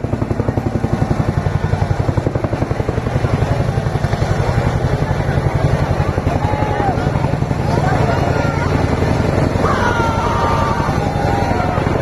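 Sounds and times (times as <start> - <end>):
helicopter rotor blades beating: 0.0 - 12.0.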